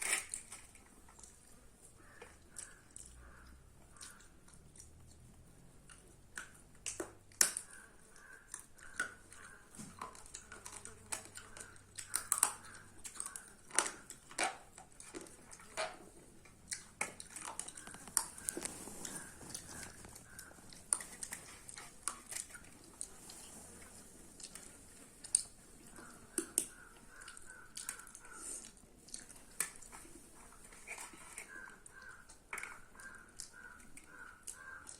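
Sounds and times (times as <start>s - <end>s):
person chewing food: 0.0s - 34.9s.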